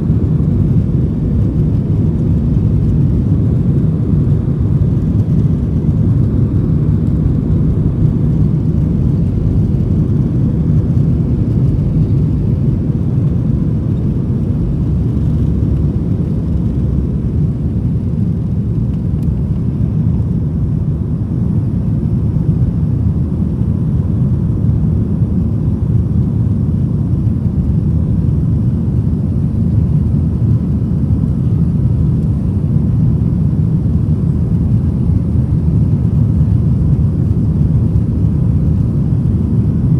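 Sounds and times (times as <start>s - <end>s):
faint steady engine whine: 0.0s - 39.9s
jet engines heavy low rumble: 0.0s - 39.9s.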